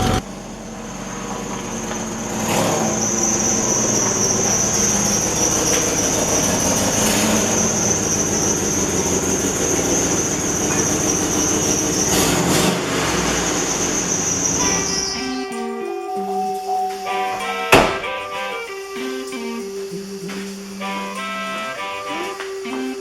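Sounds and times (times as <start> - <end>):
high-pitched exhaust squeal: 0.0 - 23.0
pickup engine running: 0.0 - 23.0.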